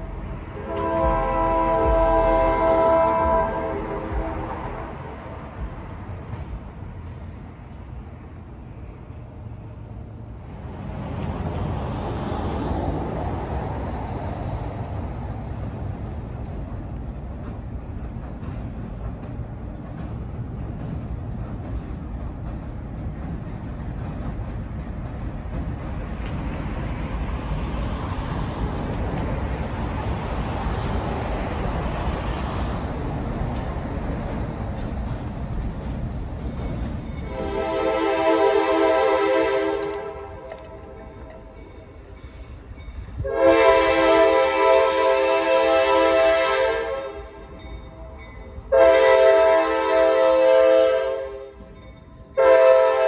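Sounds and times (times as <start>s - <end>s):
diesel train rumbling: 0.0s - 53.0s.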